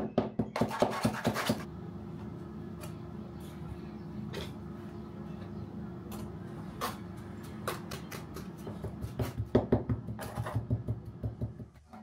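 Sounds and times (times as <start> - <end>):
steady low hum: 1.4 - 11.7.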